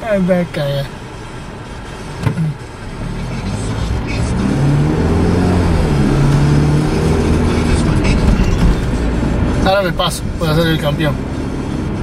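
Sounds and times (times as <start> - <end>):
car engine: 0.0 - 12.0
road noise inside car: 0.0 - 12.0.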